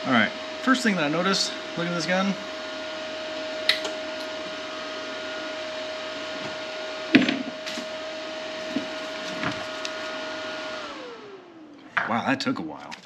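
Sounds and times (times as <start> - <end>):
wire feed motor humming: 0.0 - 13.0.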